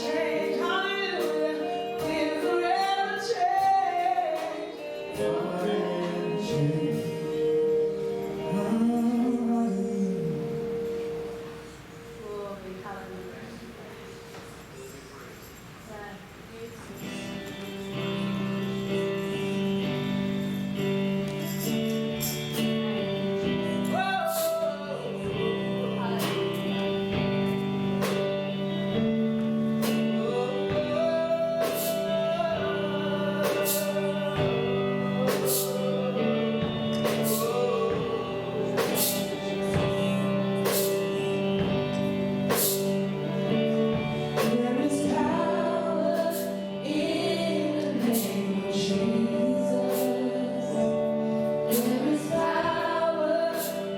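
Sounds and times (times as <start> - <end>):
person singing: 0.0 - 11.4, 17.0 - 53.9
held chords: 0.0 - 53.9.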